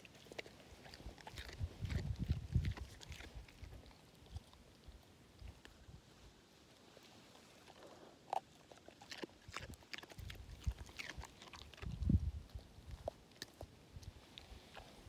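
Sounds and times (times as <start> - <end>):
dog crunching carrot: 0.0 - 5.9, 7.3 - 15.0.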